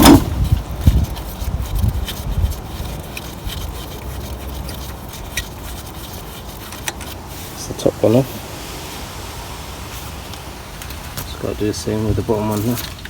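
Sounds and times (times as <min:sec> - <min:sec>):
light scraping: 0:00.0 - 0:09.1, 0:09.8 - 0:13.0.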